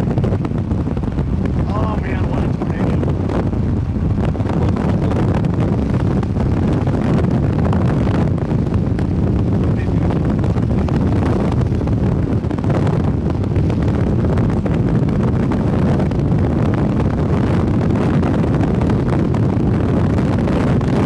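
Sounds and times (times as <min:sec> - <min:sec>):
car road noise: 0:00.0 - 0:21.0
wind buffeting microphone: 0:00.0 - 0:21.0.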